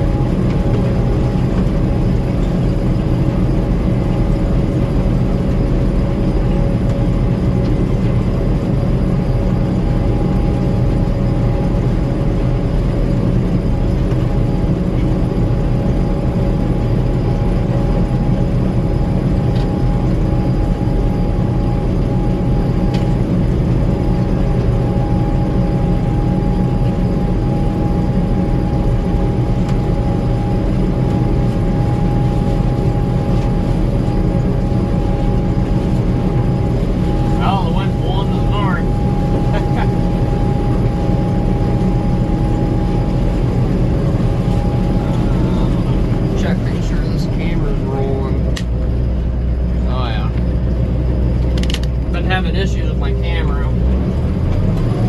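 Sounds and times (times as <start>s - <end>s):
combine harvester drone: 0.0s - 55.0s
machine whine: 0.0s - 55.0s.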